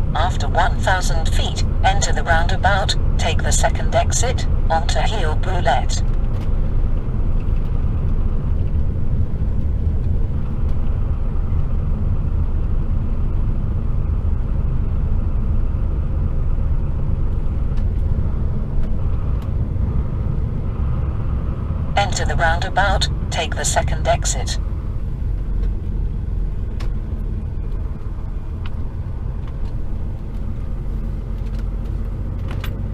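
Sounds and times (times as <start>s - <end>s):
road noise: 0.0s - 32.9s
truck diesel engine rumble: 0.0s - 32.9s.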